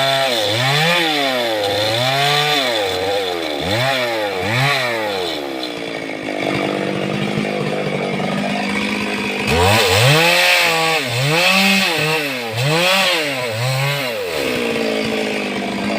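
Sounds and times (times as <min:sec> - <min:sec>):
chainsaw revving: 0:00.0 - 0:15.9.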